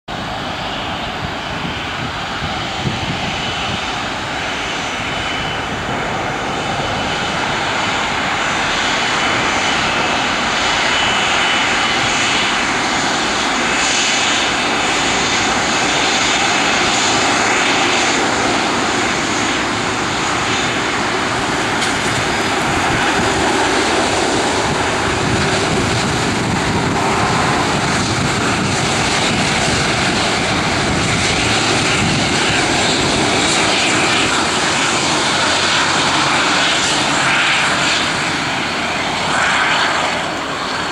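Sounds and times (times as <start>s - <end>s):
jet engines taxiing: 0.1s - 40.9s.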